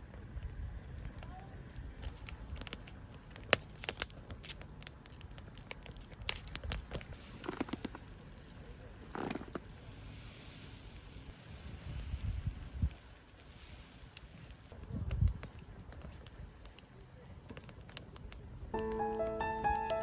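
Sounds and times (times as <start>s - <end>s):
campfire crackling and popping: 0.1s - 20.0s.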